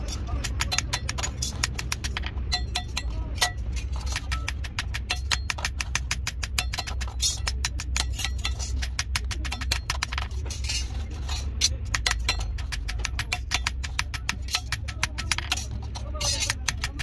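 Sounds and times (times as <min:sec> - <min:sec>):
metal tools clinking on car parts: 0:00.0 - 0:17.0
steady low hum: 0:00.0 - 0:17.0.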